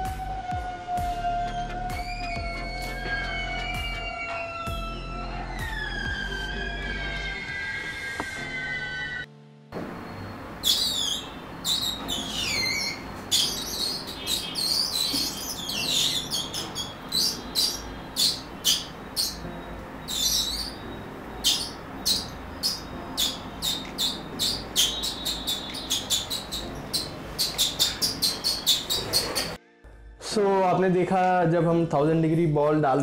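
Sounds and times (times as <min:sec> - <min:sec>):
hot steel ball squealing in beads: 0:01.3 - 0:09.3, 0:10.6 - 0:29.6.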